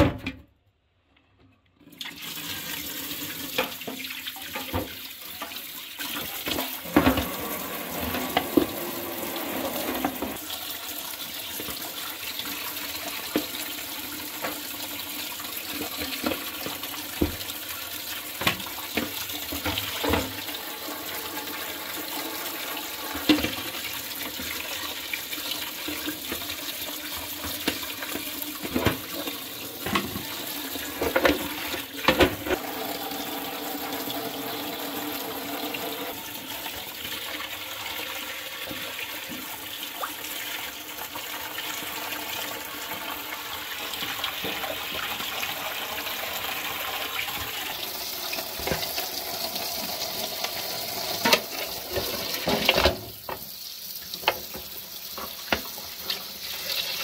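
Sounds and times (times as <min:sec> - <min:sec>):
tap water running: 0:01.8 - 0:57.0.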